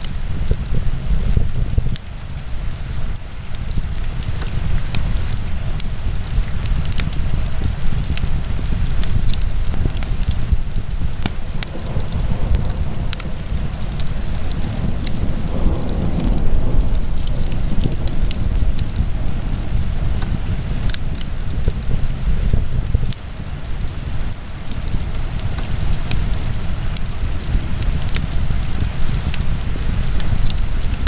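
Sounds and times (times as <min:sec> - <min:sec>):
fire crackling and popping: 0:00.0 - 0:31.0
fireplace fire rumbling: 0:00.0 - 0:31.0.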